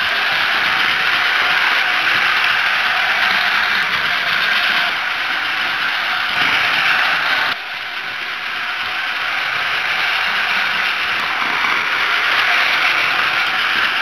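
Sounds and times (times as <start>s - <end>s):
toy train motor whirring and rattling: 0.0s - 14.0s.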